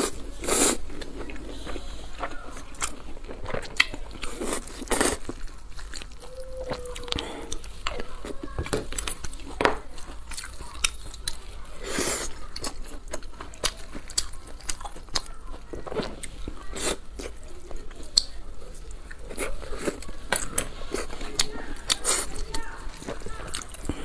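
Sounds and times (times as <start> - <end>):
chewing with wet mouth smacks: 0.0 - 24.0.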